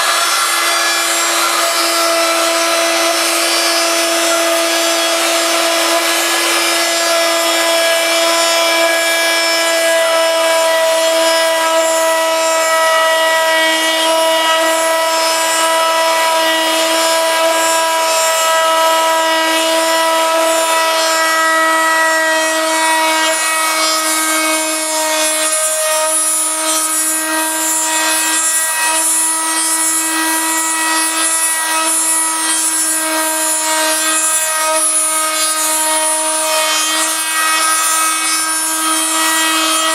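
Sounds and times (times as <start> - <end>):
router bit cutting wood: 0.0 - 39.9
router whining: 0.0 - 39.9.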